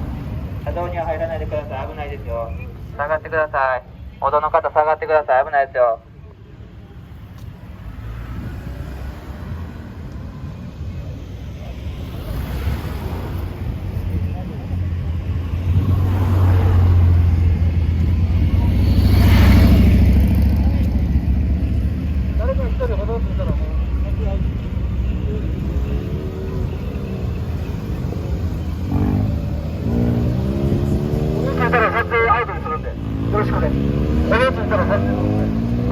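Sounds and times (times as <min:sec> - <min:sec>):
car engine rumbling: 0:05.8 - 0:35.9.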